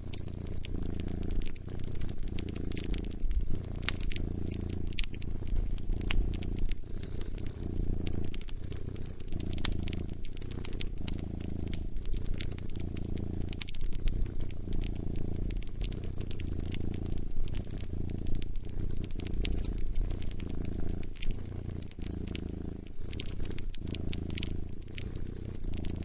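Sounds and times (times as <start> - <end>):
cat purring: 0.0 - 26.0
wood fire crackling and popping: 0.0 - 26.0.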